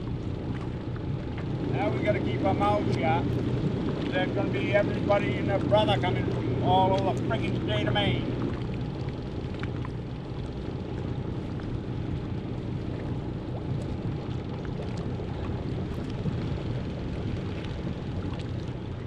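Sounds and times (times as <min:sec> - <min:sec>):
boat motor droning: 0:00.0 - 0:19.0
water rushing past hull: 0:00.0 - 0:19.0
wind: 0:00.0 - 0:19.0.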